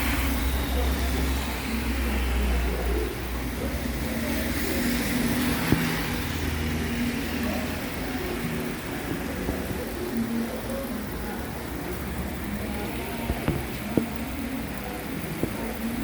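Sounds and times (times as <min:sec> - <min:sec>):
rain hissing on wet road: 0:00.0 - 0:16.0.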